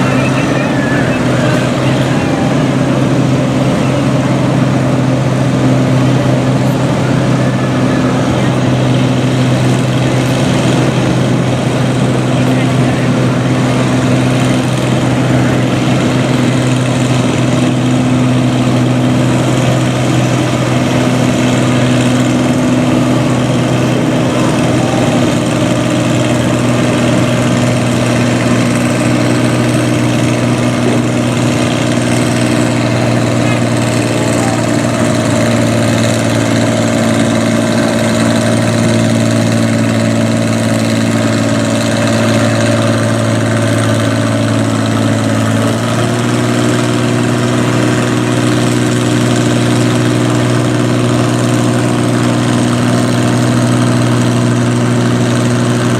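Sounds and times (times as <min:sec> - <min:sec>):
tractor diesel engine idling: 0:00.0 - 0:55.9.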